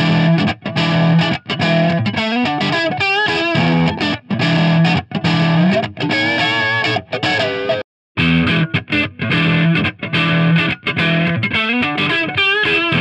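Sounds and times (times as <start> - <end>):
distorted electric guitar riff: 0.0 - 13.0.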